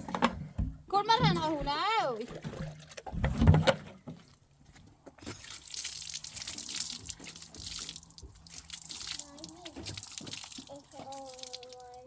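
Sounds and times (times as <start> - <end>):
water dripping and splashing: 1.1 - 12.0.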